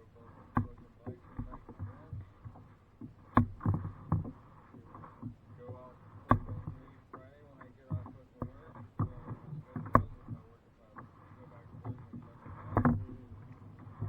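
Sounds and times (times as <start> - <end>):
paddle knocking on kayak: 0.0 - 14.0.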